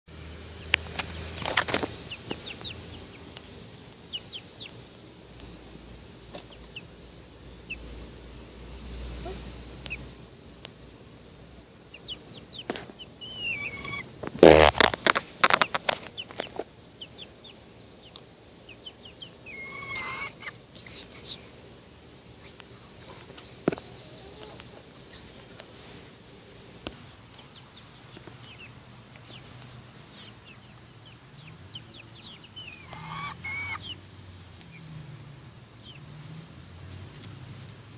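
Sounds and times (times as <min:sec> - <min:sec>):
chickens clucking: 0:00.5 - 0:10.7, 0:11.9 - 0:21.6, 0:22.3 - 0:34.8.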